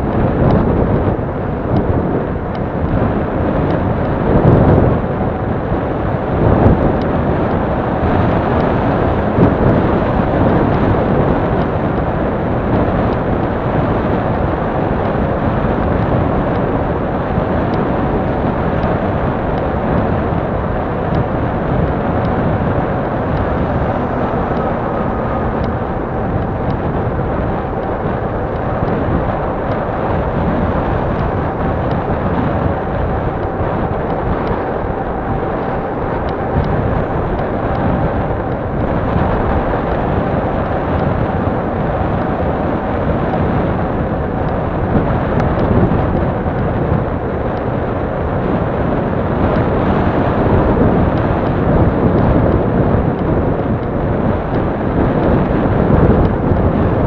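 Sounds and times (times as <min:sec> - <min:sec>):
bicycle tyres rolling on asphalt: 0:00.0 - 0:57.0
wind noise on microphone: 0:00.0 - 0:57.0.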